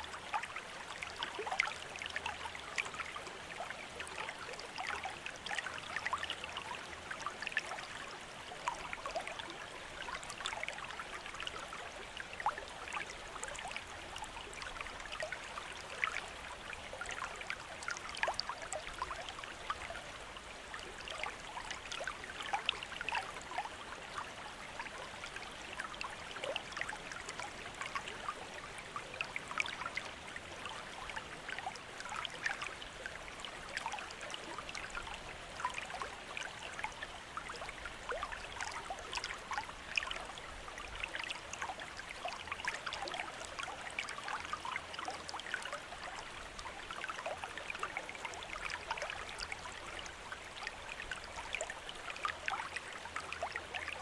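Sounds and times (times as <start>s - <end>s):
fountain water trickling into basin: 0.0s - 54.0s.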